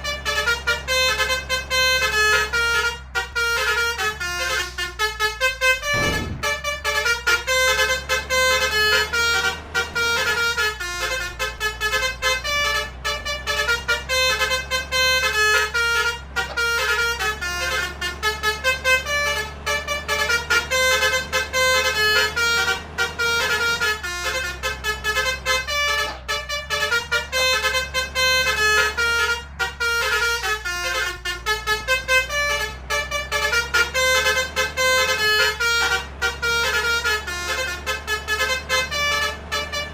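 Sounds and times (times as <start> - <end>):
low engine hum: 0.0 - 39.9
musical horn playing melody: 0.0 - 39.9.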